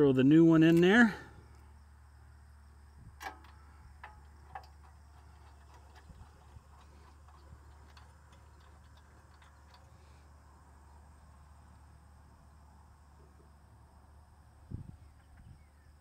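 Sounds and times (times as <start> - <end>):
faint low hum: 0.1 - 16.0.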